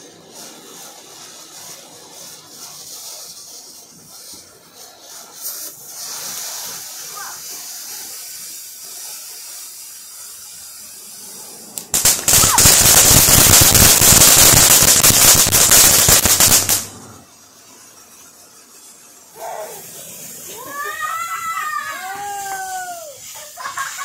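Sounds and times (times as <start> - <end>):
firework crackling: 0.0 - 24.0
firework fountain hissing: 0.0 - 24.0.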